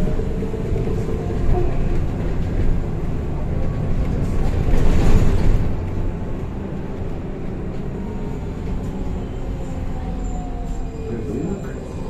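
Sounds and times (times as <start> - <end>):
trolleybus tyres rumbling: 0.0 - 12.0.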